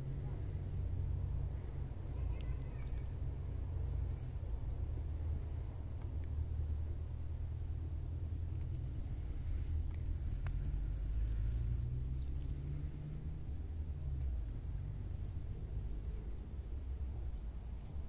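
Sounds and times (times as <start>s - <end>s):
small birds chirping and trilling: 0.0s - 18.0s.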